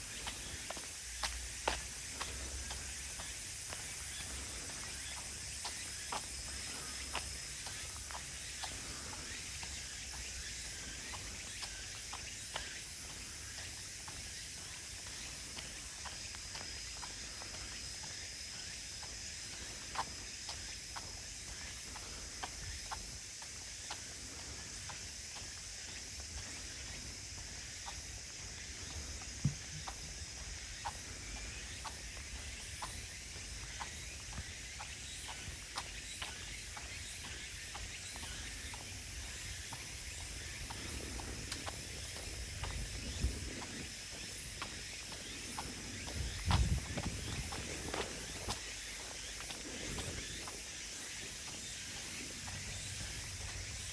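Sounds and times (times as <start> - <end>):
footsteps on trail: 0.0 - 53.9
insects chorus: 0.0 - 53.9.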